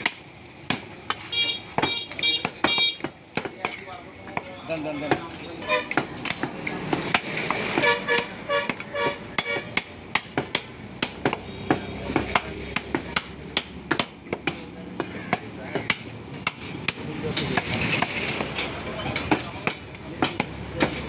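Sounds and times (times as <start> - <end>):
cleaver chopping on wooden block: 0.0 - 4.5, 5.9 - 18.2, 19.2 - 21.0.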